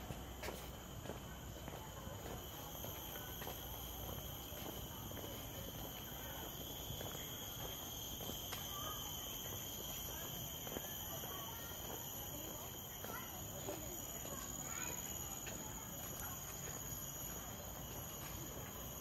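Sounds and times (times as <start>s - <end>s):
insects buzzing: 1.0s - 19.0s.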